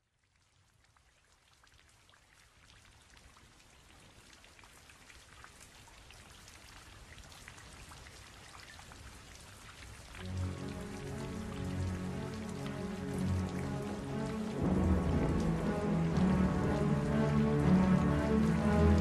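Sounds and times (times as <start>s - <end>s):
rain falling: 2.9s - 19.0s.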